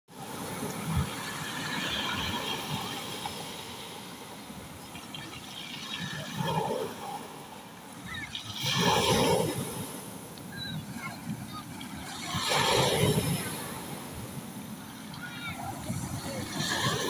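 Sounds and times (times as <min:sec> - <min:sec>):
waves breaking on pebble beach: 0:00.2 - 0:17.0.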